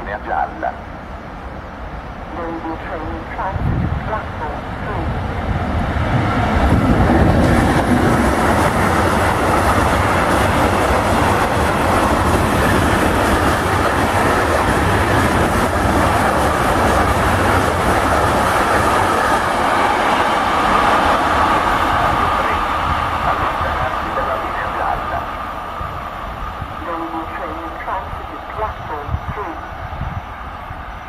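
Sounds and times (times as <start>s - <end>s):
freight train rumbling past: 0.0s - 31.0s.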